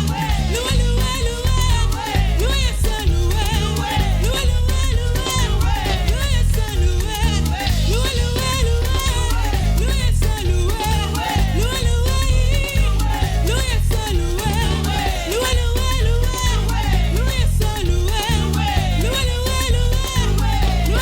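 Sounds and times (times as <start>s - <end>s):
upbeat worship music: 0.0s - 21.0s.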